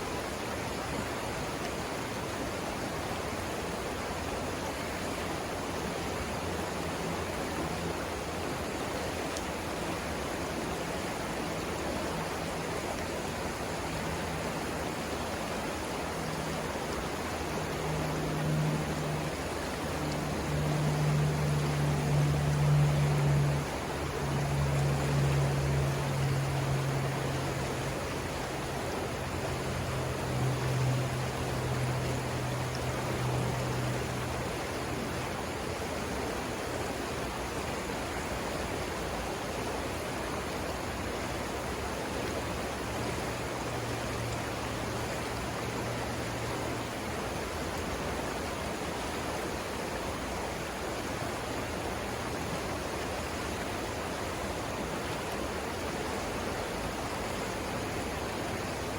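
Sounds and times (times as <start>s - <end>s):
low steady hum: 0.0s - 58.9s
river rushing over rapids: 0.0s - 58.9s.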